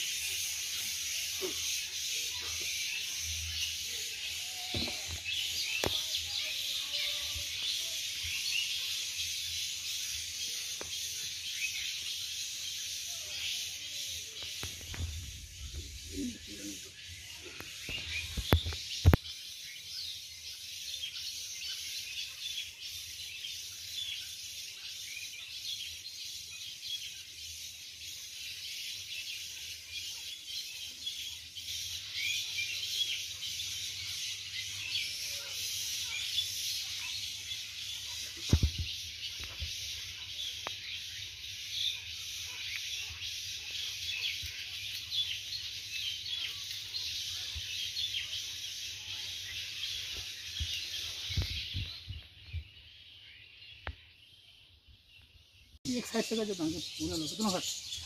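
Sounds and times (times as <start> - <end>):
high outdoor hiss: 0.0 - 51.8
small birds chirping: 0.0 - 58.0.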